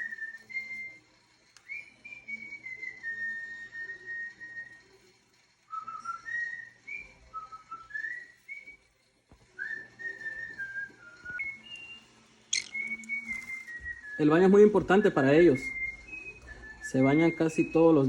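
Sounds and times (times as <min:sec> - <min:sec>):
person whistling a tune: 0:00.0 - 0:01.0, 0:01.6 - 0:04.9, 0:05.7 - 0:08.9, 0:09.6 - 0:18.0.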